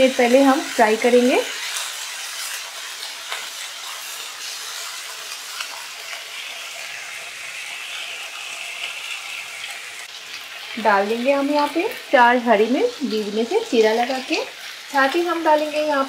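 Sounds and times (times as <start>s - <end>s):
potato sticks sizzling in oil: 0.0s - 16.0s.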